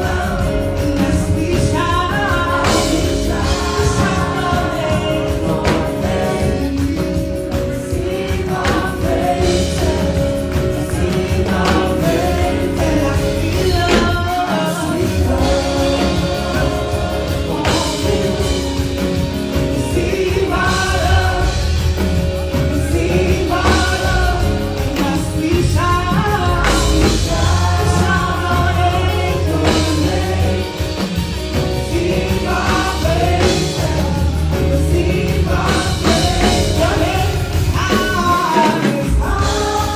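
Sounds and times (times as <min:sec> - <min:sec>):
gospel choir singing: 0:00.0 - 0:39.9
live band with bass drums and keys: 0:00.0 - 0:39.9.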